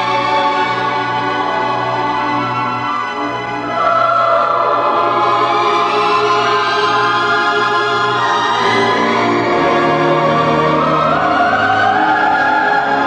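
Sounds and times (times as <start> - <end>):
choir singing held notes: 0.0 - 13.0
orchestral film music: 0.0 - 13.0.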